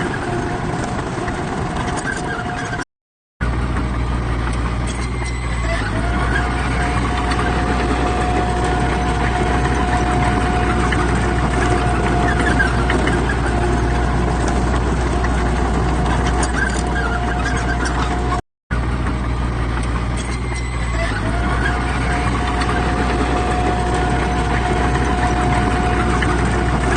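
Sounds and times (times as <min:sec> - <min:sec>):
diesel machinery engine rumble: 0:00.0 - 0:02.8, 0:03.4 - 0:26.9.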